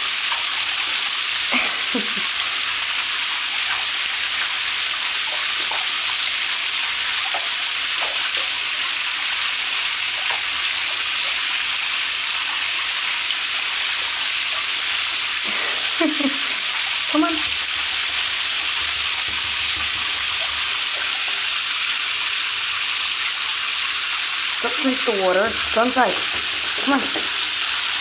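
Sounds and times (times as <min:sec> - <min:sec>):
water running into bathtub: 0:00.0 - 0:28.0
water splashing: 0:00.0 - 0:28.0.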